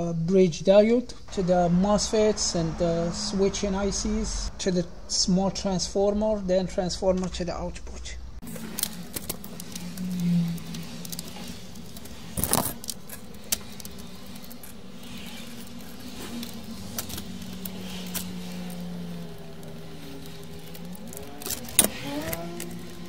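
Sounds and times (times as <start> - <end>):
low hum: 1.1 - 23.0.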